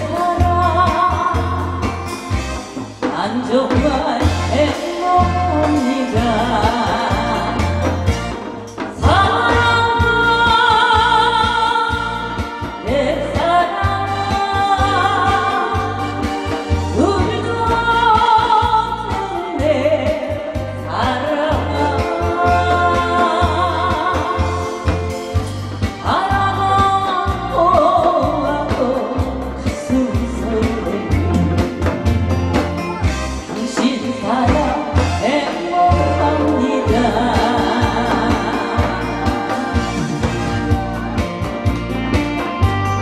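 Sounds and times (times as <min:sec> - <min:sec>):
person singing with vibrato: 0:00.0 - 0:32.3, 0:32.9 - 0:41.7.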